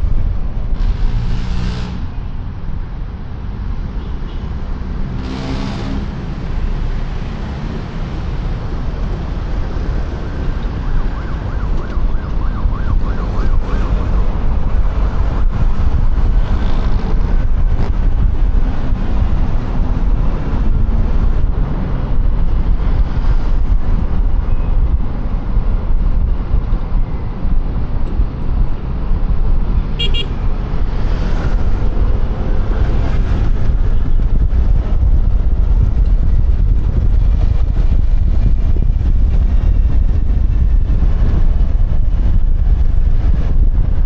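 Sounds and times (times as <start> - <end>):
road traffic: 0.0 - 44.0
wind buffeting microphone: 6.5 - 44.0.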